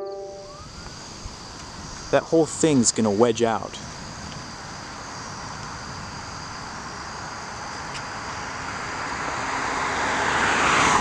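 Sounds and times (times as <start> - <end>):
insect chirring: 0.0 - 9.2
vehicle approaching: 0.0 - 11.0.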